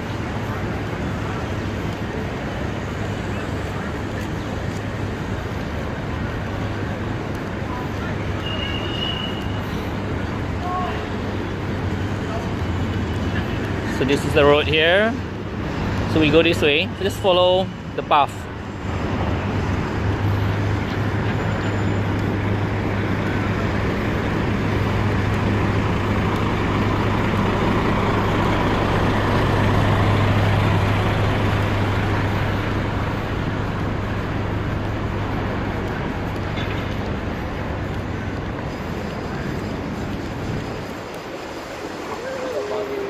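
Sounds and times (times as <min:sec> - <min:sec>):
road traffic passing: 0:00.0 - 0:43.0.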